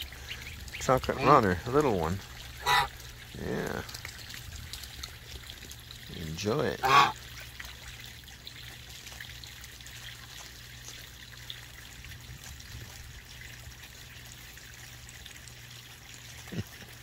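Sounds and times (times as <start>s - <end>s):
light water splashes: 0.0s - 17.0s
low steady hum: 0.0s - 17.0s
water trickling: 0.0s - 17.0s.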